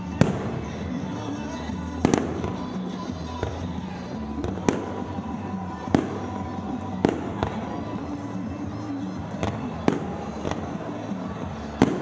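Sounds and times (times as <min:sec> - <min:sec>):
music playing: 0:00.0 - 0:12.0
fireworks bangs: 0:00.1 - 0:01.0, 0:02.0 - 0:08.3, 0:09.2 - 0:12.0.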